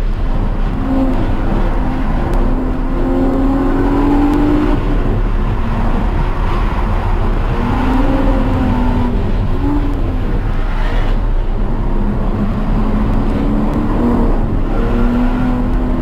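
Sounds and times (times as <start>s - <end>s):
car engine revving hard: 0.0s - 16.0s
wind and road noise rumble: 0.0s - 16.0s.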